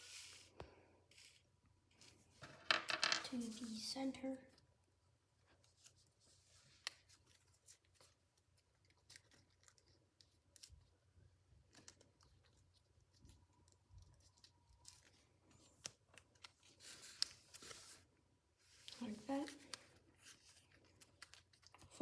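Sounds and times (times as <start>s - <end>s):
paper being folded and creased: 0.0s - 2.2s, 5.6s - 11.0s, 11.6s - 22.0s.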